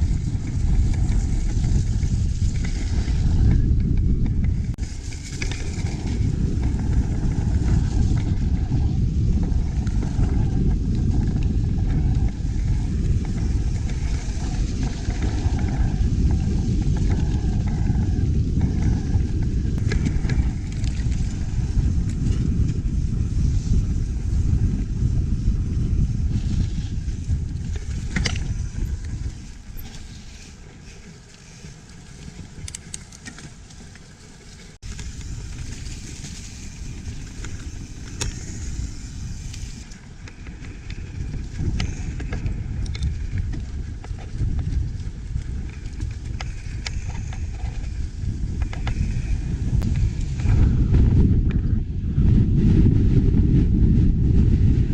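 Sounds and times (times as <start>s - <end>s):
bike rattling: 0.0s - 54.9s
tyre noise on trail: 0.0s - 54.9s
wind buffeting microphone: 0.0s - 54.9s.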